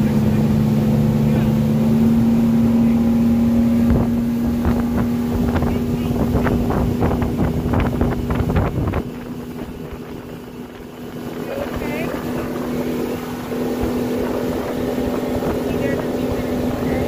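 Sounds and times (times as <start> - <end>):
motorboat engine running: 0.0 - 17.0
wind on microphone: 3.3 - 17.0.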